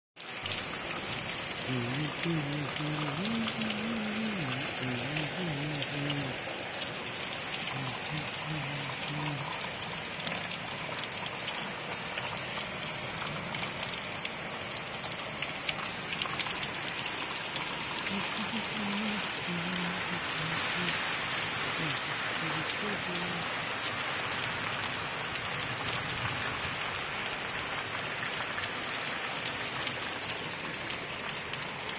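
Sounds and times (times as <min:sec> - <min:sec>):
heavy rain on trees and ground: 0:00.2 - 0:31.9
individual raindrops ticking: 0:00.2 - 0:31.9.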